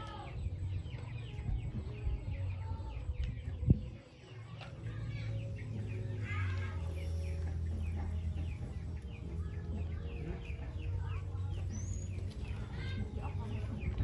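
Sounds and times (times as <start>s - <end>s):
chickens peeping: 0.0s - 14.0s.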